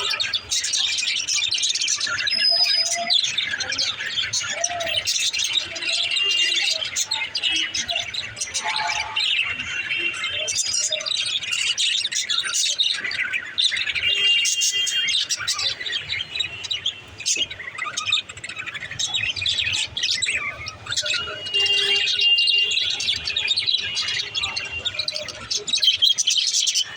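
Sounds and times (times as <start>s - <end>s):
budgerigars chirping: 0.0s - 26.9s.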